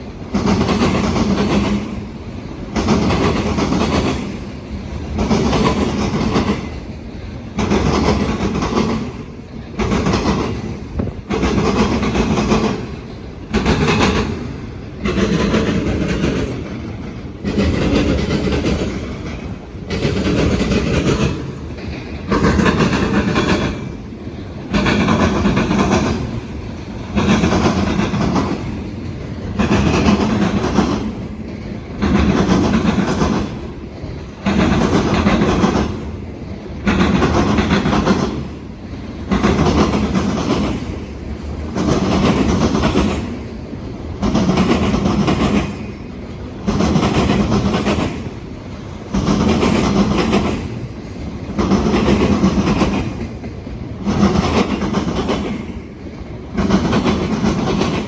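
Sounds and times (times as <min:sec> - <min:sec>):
train rumble: 0:00.0 - 0:58.0
train wheels clattering over crossing: 0:00.0 - 0:58.0.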